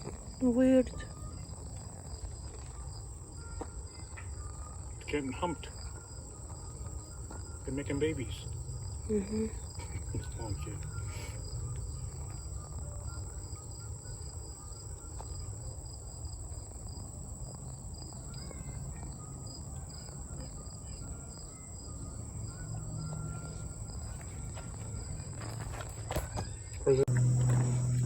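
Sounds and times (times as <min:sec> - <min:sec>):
insect chirping: 0:00.0 - 0:28.0
insect trilling: 0:00.0 - 0:28.0.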